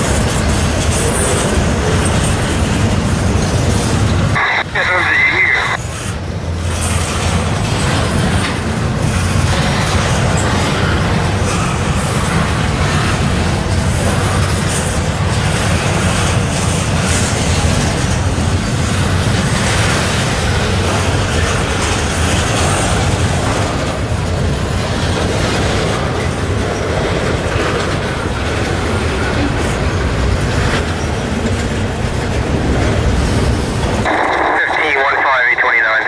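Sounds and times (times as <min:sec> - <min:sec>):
freight train wheels on rail: 0:00.0 - 0:36.0.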